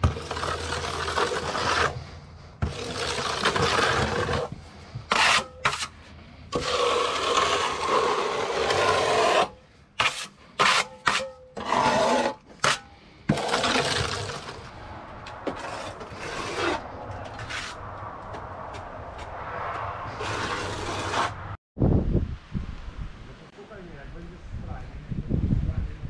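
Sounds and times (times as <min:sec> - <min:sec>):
hand tool scraping wall: 0:00.0 - 0:21.6.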